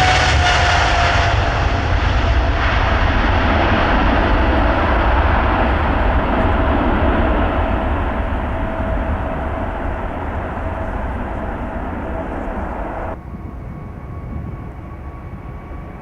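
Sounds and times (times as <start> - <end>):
jet engines passing: 0.0 - 16.0.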